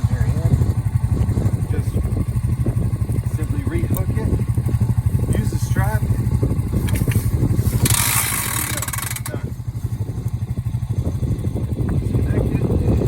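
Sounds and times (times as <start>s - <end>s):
quad engine running under load: 0.0s - 13.0s.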